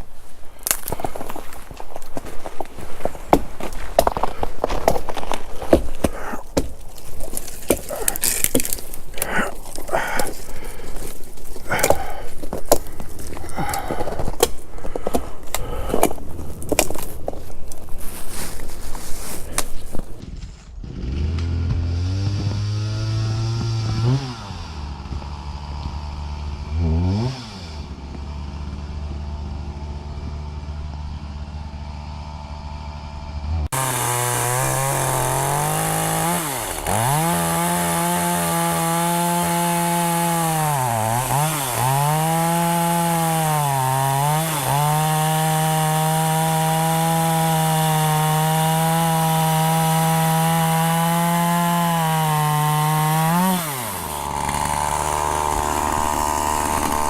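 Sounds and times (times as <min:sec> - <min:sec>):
chainsaw cutting firewood: 0:00.0 - 0:57.0
chainsaw idling and revving: 0:00.6 - 0:20.2, 0:20.8 - 0:57.0.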